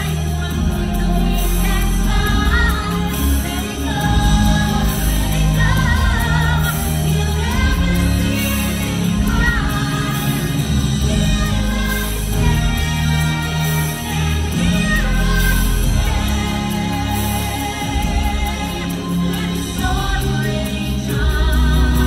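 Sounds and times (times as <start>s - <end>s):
steady bass line: 0.0s - 22.0s.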